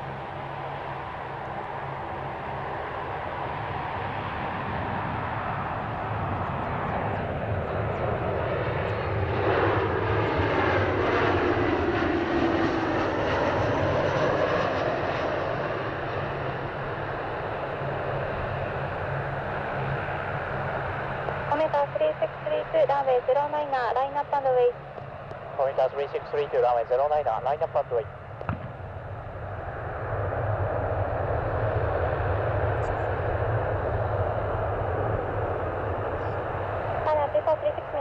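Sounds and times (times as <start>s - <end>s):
jet airliner passing by: 0.0s - 38.0s.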